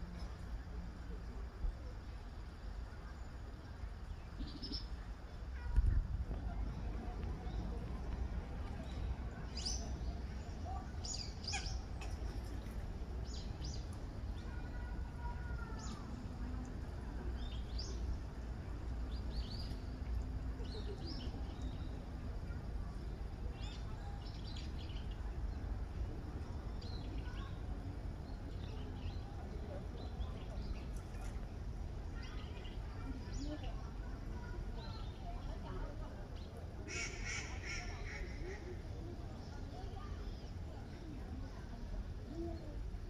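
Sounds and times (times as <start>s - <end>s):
steady low rumble: 0.0s - 35.3s.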